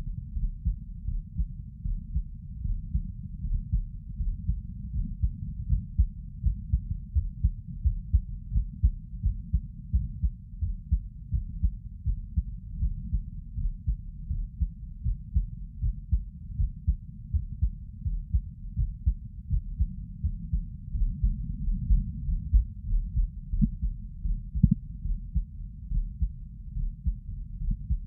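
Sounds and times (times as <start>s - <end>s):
heartbeat thuds: 0.0s - 28.0s.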